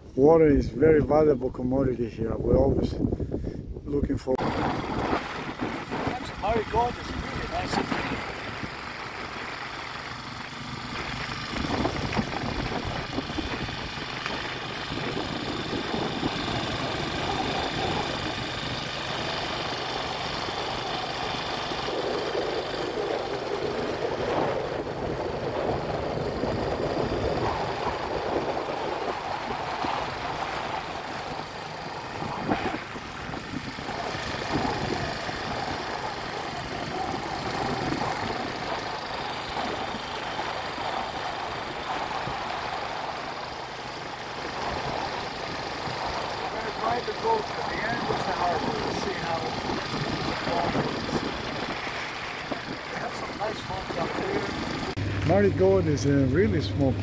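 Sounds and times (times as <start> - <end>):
outboard motor running: 4.4 - 57.0.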